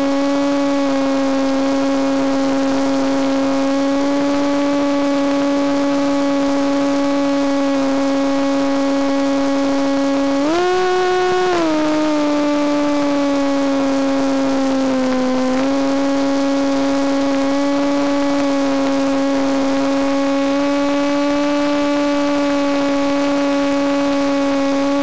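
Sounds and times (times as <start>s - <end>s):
model plane propeller droning: 0.0s - 25.0s.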